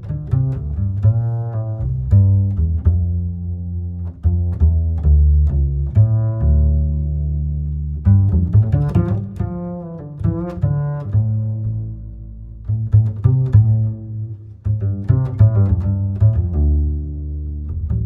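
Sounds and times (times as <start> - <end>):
held low notes: 0.0 - 18.0
plucked string notes in bouncy rhythm: 0.0 - 18.0.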